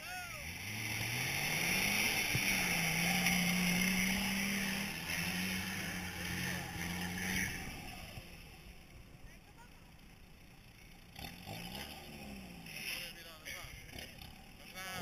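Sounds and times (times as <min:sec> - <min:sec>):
suv engine running under load: 0:00.0 - 0:15.0.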